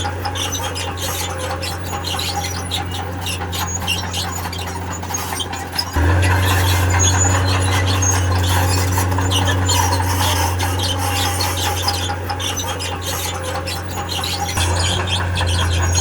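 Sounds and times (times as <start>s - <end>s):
diesel engine running: 0.0s - 16.0s
high metallic squeals and scrapes: 0.0s - 16.0s.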